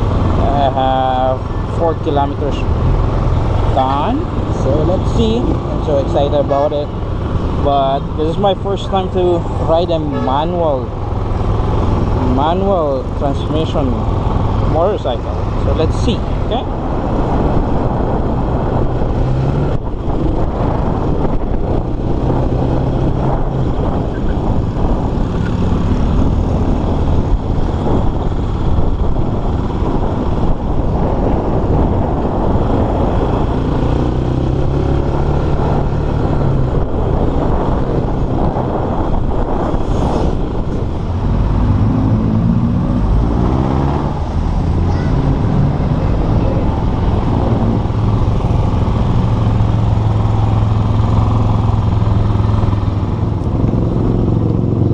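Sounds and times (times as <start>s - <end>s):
motorcycle engine revving: 0.0s - 54.9s
road and wind noise: 0.0s - 54.9s.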